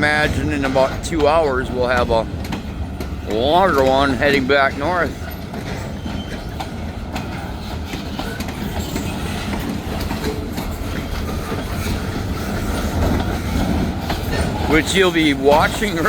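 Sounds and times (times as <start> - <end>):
train low rumble: 0.0 - 16.0
train wheels clacking over rail joints: 0.0 - 16.0.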